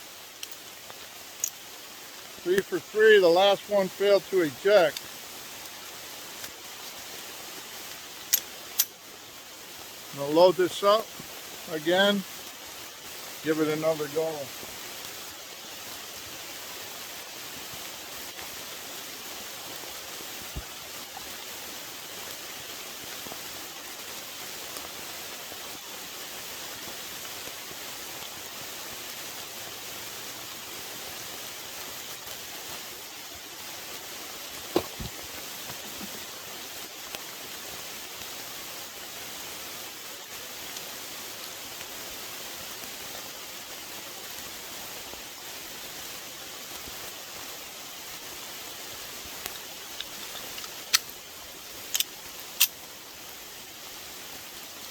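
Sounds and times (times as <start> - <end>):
rain hissing: 0.0 - 54.9.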